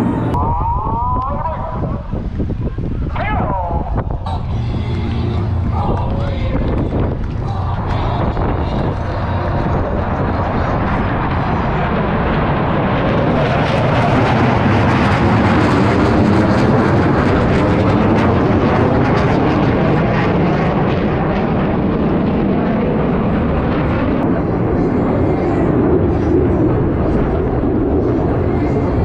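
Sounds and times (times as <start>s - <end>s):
military jets flying past low: 0.0s - 29.0s.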